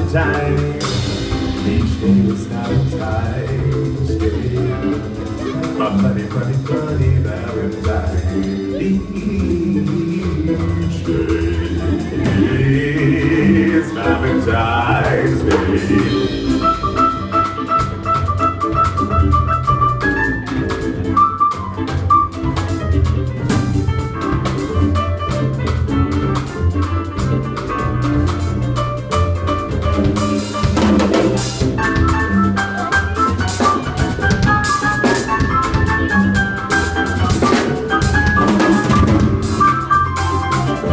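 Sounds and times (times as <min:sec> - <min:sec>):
drum kit with cymbals: 0:00.0 - 0:40.9
electric guitar melody: 0:00.0 - 0:40.9
upright bass: 0:00.0 - 0:40.9.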